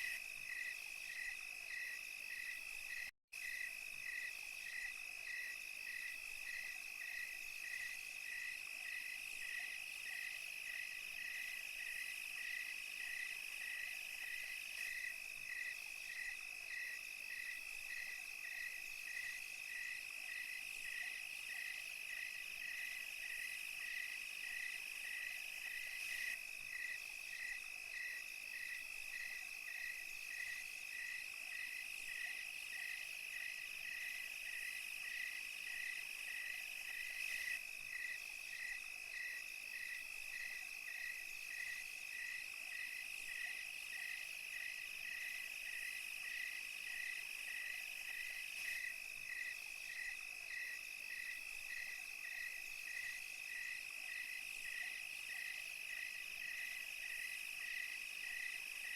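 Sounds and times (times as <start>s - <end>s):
crickets trilling: 0.0s - 58.9s
faint high insect hiss: 0.0s - 58.9s
regular insect chirp: 0.0s - 58.9s.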